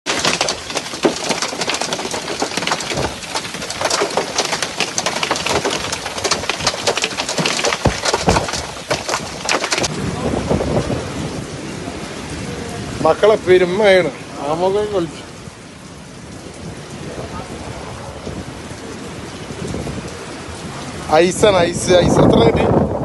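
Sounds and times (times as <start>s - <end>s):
hailstones pelting down: 0.0s - 15.6s, 16.2s - 22.8s
rain hissing: 0.0s - 23.0s.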